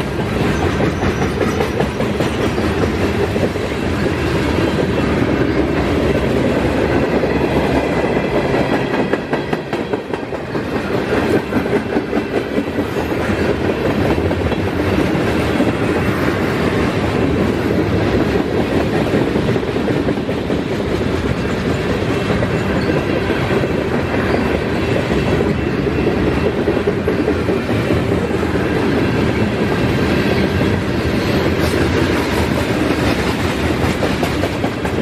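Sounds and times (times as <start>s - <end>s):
freight train wheels rumbling on rails: 0.0s - 35.0s.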